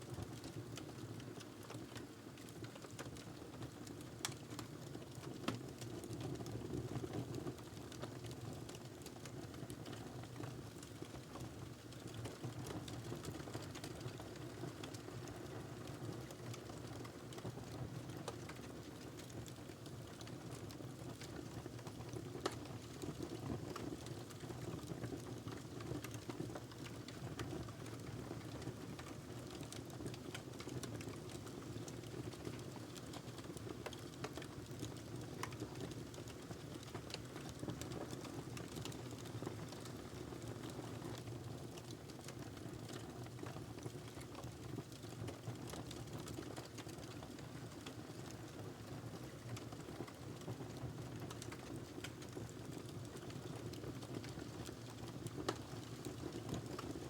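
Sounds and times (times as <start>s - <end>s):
wood fire crackling: 7.8s - 57.0s.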